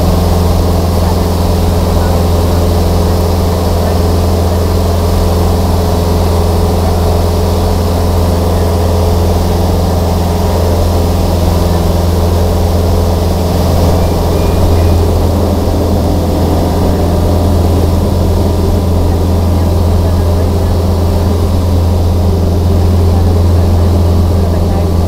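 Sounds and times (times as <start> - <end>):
small aircraft engine droning: 0.0 - 25.0.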